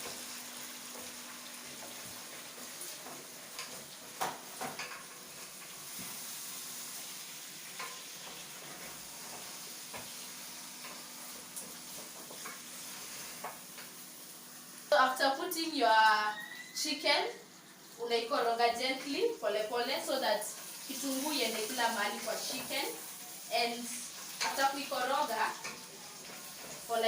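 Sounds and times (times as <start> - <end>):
chicken sizzling in a pot: 0.0 - 27.0.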